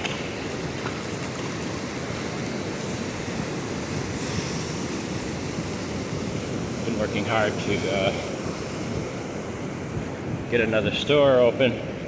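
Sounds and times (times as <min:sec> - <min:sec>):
surf washing in: 0:00.0 - 0:12.0
wind buffeting microphone: 0:00.0 - 0:12.0.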